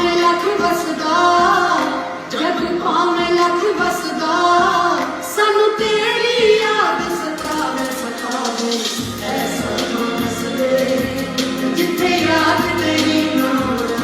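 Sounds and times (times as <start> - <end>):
instrumental backing: 0.0 - 14.0.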